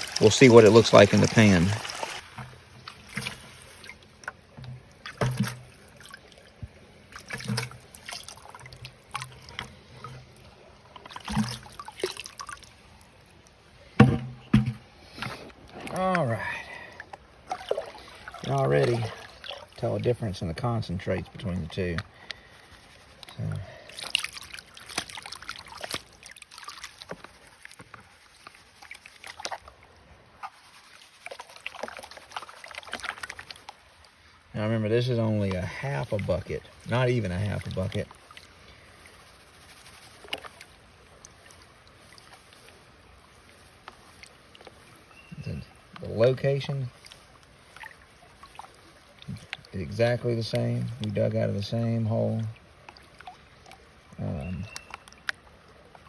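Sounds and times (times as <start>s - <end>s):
water trickling and sloshing: 0.0s - 56.0s.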